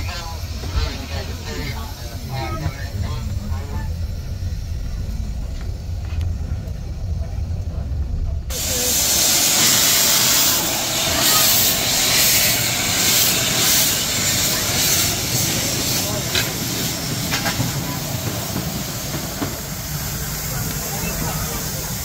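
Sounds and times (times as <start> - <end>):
steam hissing from locomotive: 0.0 - 6.0, 8.5 - 22.0
low rumble: 0.0 - 20.9.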